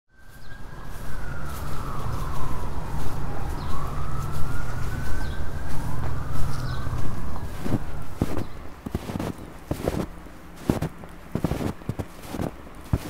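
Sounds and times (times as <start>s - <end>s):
emergency siren wailing: 0.1s - 13.0s
steady low rumble: 0.4s - 13.0s.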